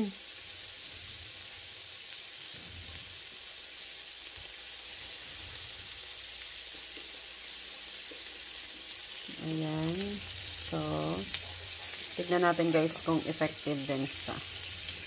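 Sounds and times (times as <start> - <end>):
chicken wings sizzling on grill: 0.0 - 15.0.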